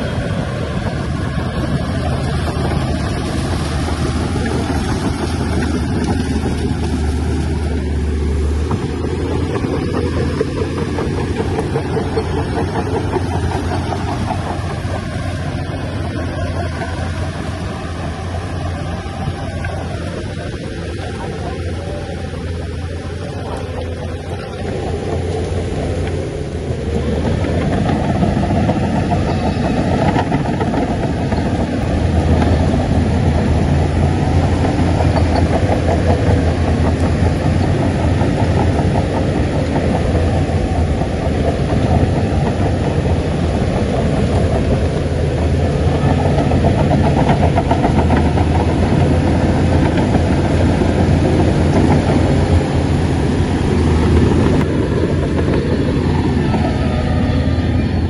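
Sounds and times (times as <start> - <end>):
bulldozer diesel engine hum: 0.0 - 58.0.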